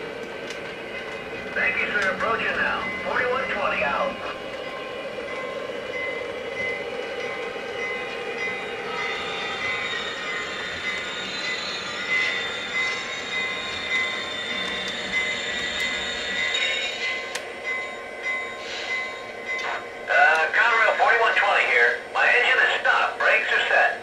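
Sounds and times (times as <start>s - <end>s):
model locomotive drone and wheels: 0.0s - 24.0s.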